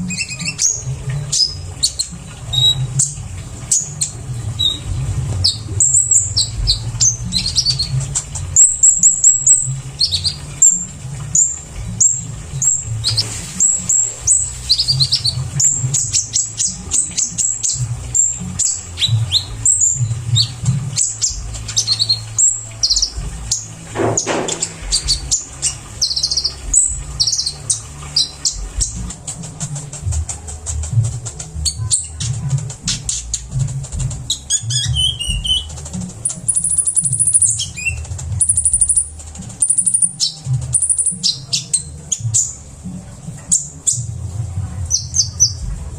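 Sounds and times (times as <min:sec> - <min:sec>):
bird chirping and trilling: 0:00.0 - 0:29.1, 0:34.2 - 0:42.6, 0:44.9 - 0:45.6.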